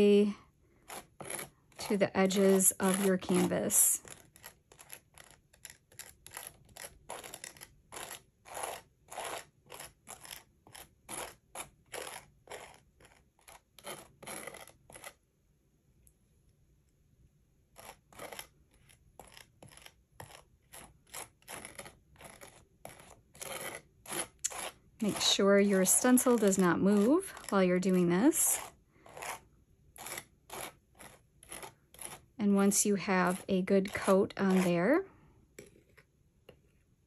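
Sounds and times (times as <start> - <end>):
palette knife scraping paste: 0.0 - 15.3, 17.6 - 37.0.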